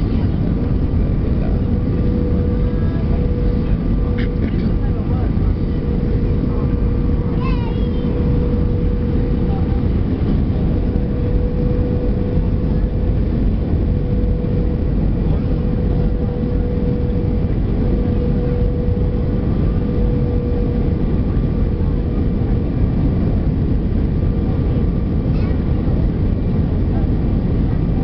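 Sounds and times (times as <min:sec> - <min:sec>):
aircraft cabin engine rumble: 0:00.0 - 0:28.0.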